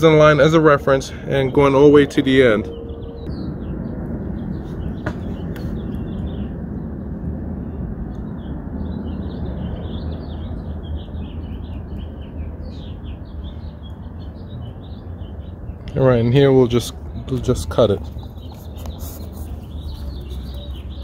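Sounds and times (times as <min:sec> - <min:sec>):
low outdoor background noise: 0:00.0 - 0:21.0
small birds chirping: 0:00.0 - 0:21.0.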